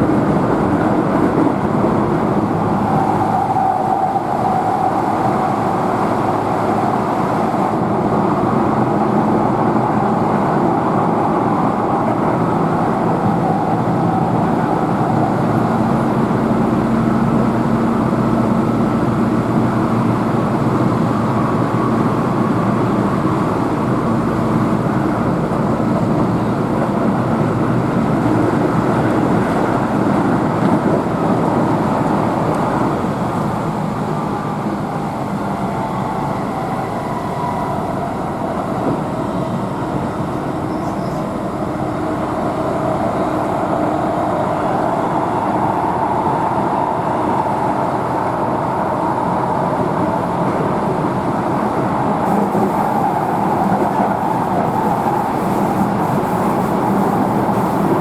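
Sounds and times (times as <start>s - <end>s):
train humming tone: 0.0s - 58.0s
train wheels rumbling on rail: 0.0s - 58.0s.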